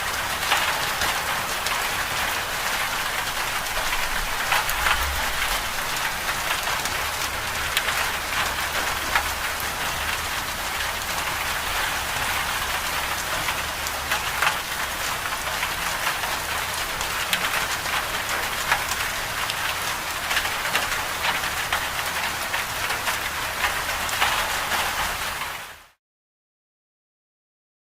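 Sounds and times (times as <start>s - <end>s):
hiss of falling rain: 0.0s - 26.0s.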